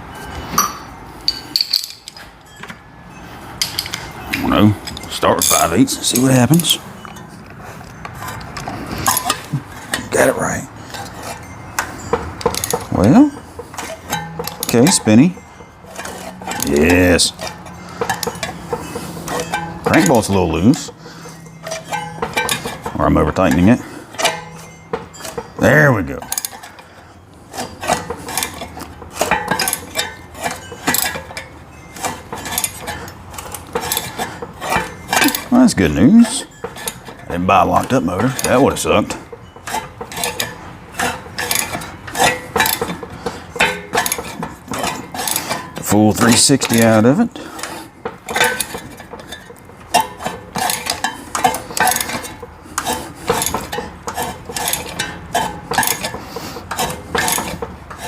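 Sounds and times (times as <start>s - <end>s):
wrench clinking on engine bolt: 0.1s - 58.0s.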